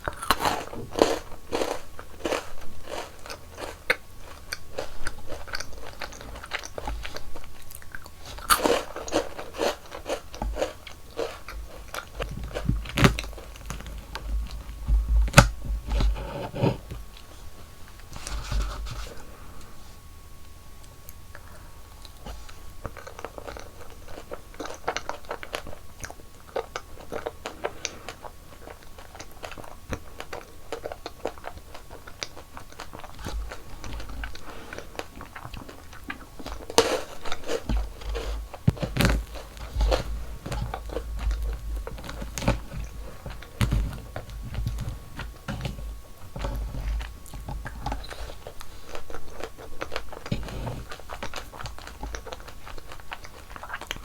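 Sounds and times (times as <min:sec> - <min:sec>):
person chewing crunchy dessert: 0:00.0 - 0:19.8, 0:20.8 - 0:54.0.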